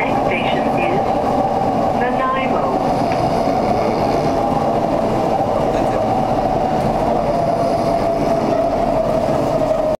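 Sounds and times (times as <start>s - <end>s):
train carriage rumble and rush: 0.0s - 10.0s
train whine: 0.0s - 10.0s.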